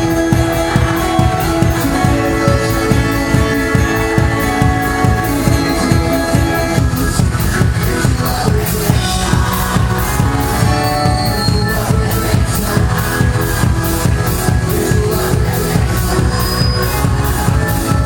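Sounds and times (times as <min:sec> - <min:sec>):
bass guitar: 0:00.0 - 0:18.0
drum kit fast beat: 0:00.0 - 0:18.0
keyboard: 0:00.0 - 0:18.0.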